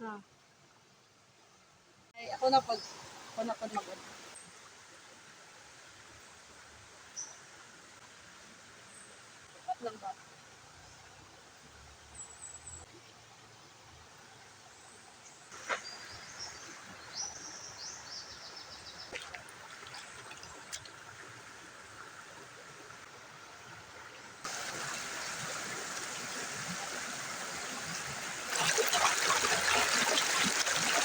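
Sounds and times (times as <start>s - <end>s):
river water flowing: 2.2s - 31.0s.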